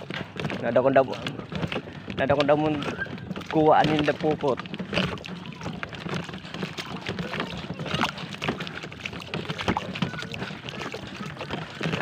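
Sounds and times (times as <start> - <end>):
knocks and clicks: 0.0 - 12.0
water splashing around boat: 0.0 - 12.0.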